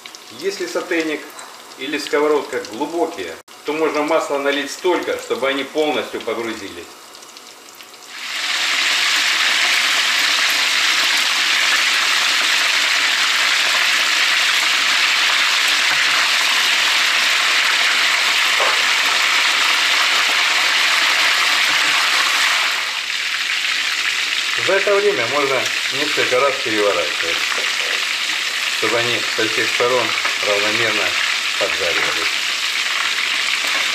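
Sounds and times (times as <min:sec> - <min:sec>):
meatballs sizzling in hot oil: 0:00.0 - 0:33.9.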